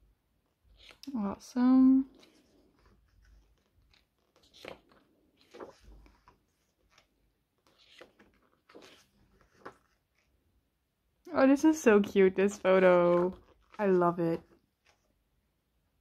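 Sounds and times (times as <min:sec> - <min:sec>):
book pages rustling: 0:00.4 - 0:10.4, 0:11.9 - 0:15.3.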